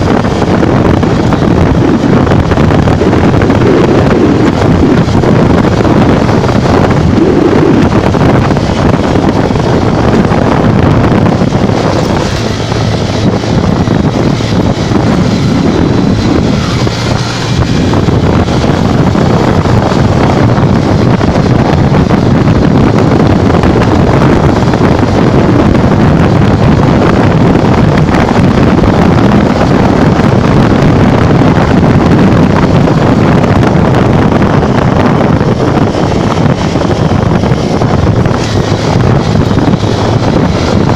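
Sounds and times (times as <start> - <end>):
motorcycle running at speed: 0.0 - 40.9
wind buffeting microphone: 0.0 - 40.9.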